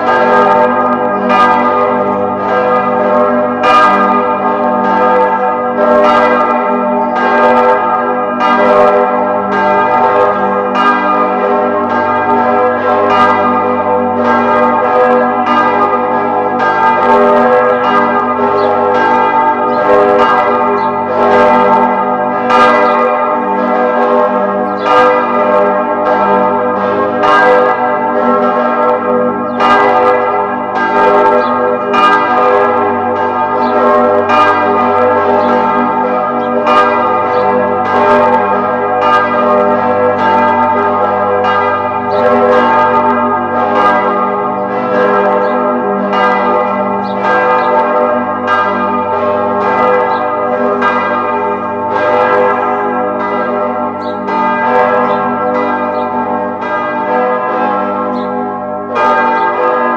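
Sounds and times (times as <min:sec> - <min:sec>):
church bells pealing: 0:00.0 - 0:59.9.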